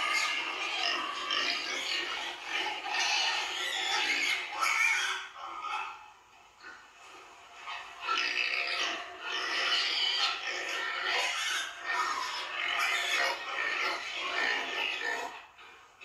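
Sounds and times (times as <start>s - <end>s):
pigs grunting and squealing: 0.0s - 6.8s, 7.6s - 16.0s.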